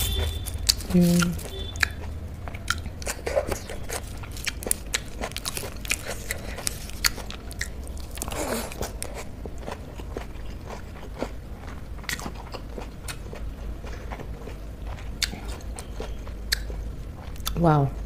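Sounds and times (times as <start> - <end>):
fingers squishing soft food: 0.0 - 17.6
person chewing food: 0.0 - 18.0.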